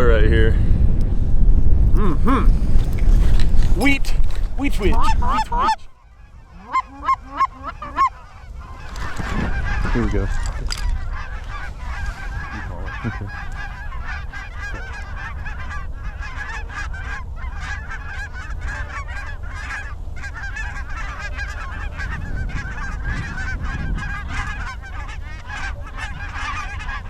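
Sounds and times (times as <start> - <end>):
low wind rumble: 0.0 - 27.0
geese honking: 2.5 - 27.0.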